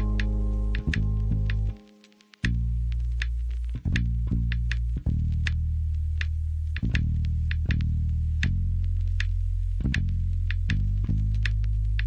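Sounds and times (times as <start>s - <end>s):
held low notes: 0.0s - 12.0s
sharp percussive clicks: 0.0s - 12.0s.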